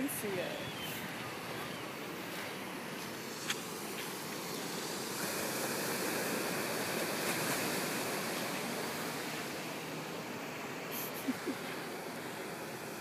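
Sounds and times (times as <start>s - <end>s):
ocean surf against rocks: 0.0s - 13.0s.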